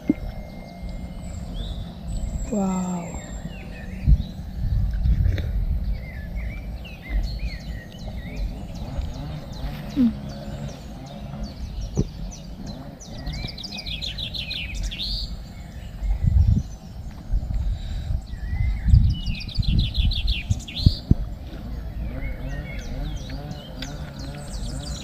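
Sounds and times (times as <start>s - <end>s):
low rumble: 0.0s - 25.0s
small birds chirping: 0.0s - 25.0s.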